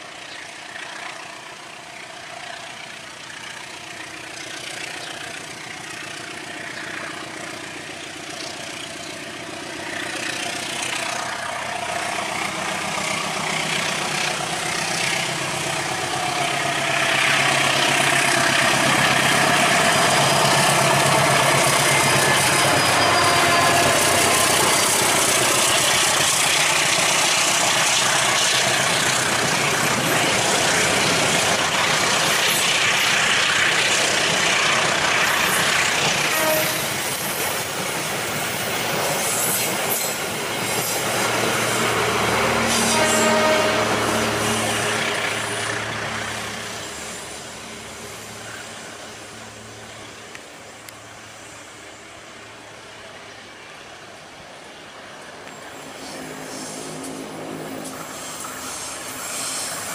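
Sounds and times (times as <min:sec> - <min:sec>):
diesel locomotive engine: 0:00.0 - 0:59.9
train on rails: 0:00.0 - 0:59.9.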